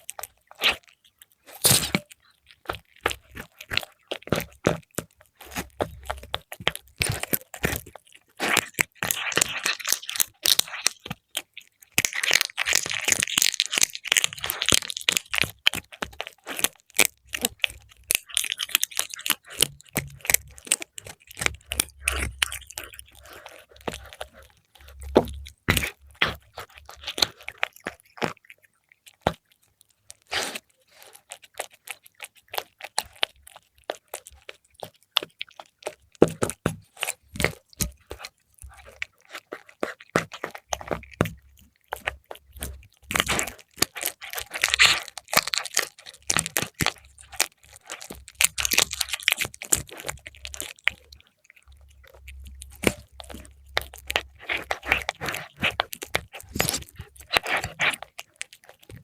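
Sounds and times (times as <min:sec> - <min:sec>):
cat crunching food: 0:00.0 - 0:59.0
wet chewing clicks: 0:00.0 - 0:59.0.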